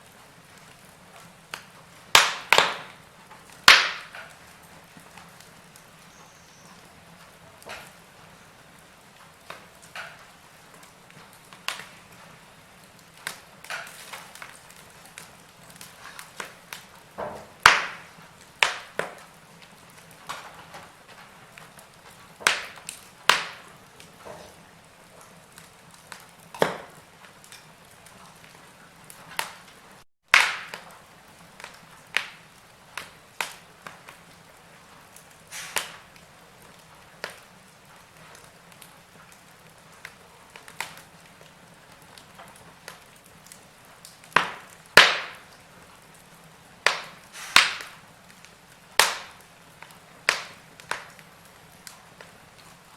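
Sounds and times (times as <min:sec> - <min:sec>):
faint steady hiss: 0:00.0 - 0:52.9
fire pops and snaps: 0:00.0 - 0:52.9
wood fire crackling: 0:00.0 - 0:52.9.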